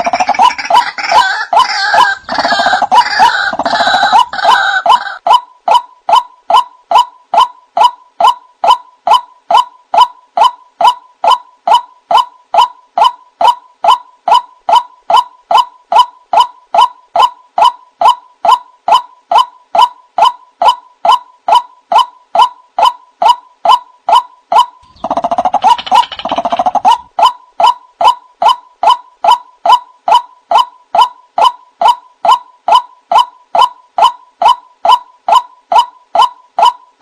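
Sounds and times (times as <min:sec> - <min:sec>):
harsh bird chattering: 0:00.0 - 0:07.1, 0:12.1 - 0:36.8.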